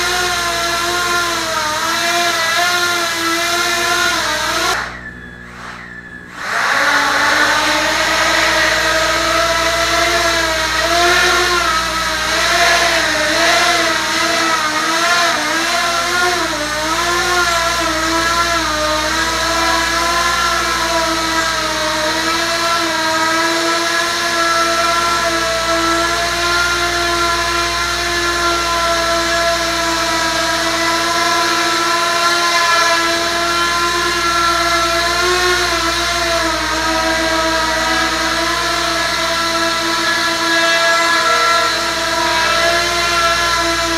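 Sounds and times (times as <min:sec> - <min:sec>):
quadcopter propellers whining: 0:00.0 - 0:43.9.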